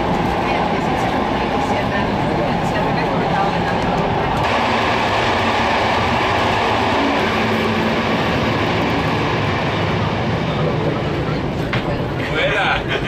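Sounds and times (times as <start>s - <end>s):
train carriage rolling on rails: 0.0s - 13.0s.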